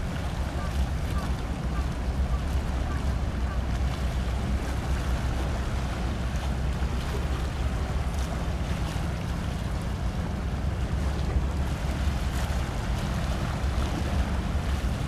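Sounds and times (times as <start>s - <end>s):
boat engine rumble: 0.0s - 15.0s
water rushing and splashing: 0.0s - 15.0s.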